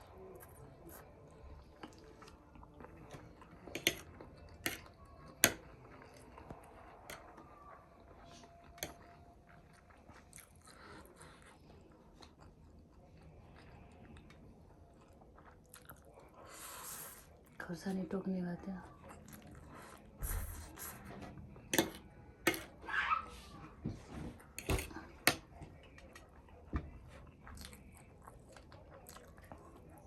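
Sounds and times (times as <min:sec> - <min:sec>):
person chewing and crunching food: 0:00.0 - 0:17.6, 0:18.9 - 0:22.8, 0:24.1 - 0:30.0.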